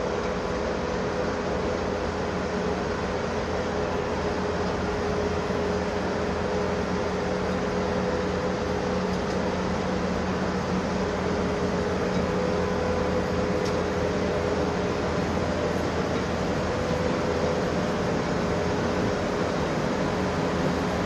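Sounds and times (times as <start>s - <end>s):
machine droning and humming: 0.0s - 21.0s.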